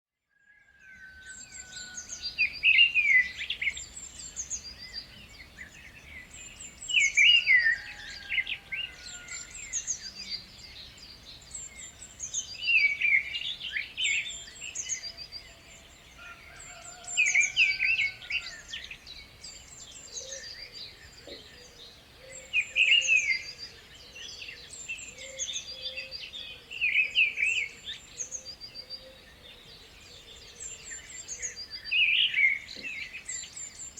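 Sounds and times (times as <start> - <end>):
birds singing and chirping: 0.6 - 33.9.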